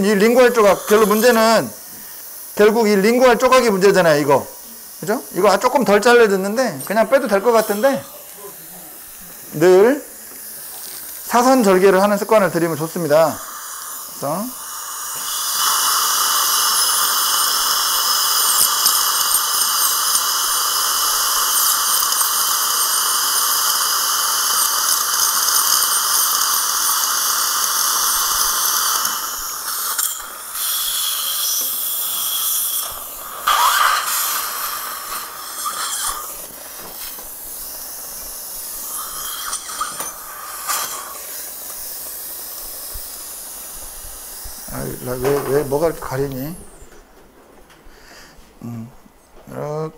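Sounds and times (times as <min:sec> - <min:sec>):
dental drill whining: 0:00.0 - 0:47.0.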